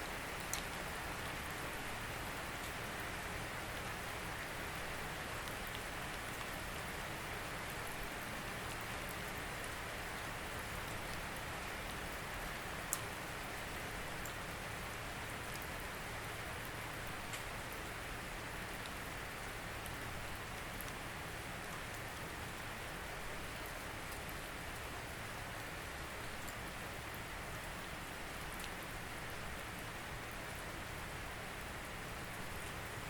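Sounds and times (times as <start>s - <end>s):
raindrops striking close by: 0.0s - 33.0s
steady rain falling: 0.0s - 33.0s.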